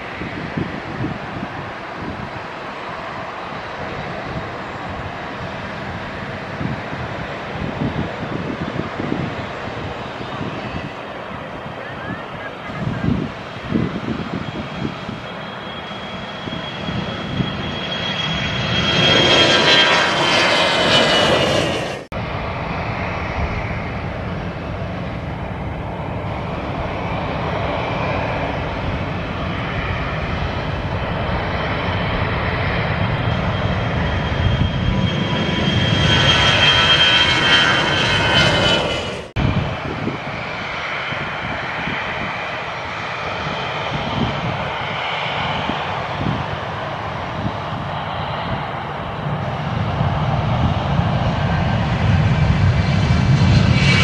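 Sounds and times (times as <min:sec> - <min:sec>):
jet airliner roar: 0:00.0 - 0:54.0.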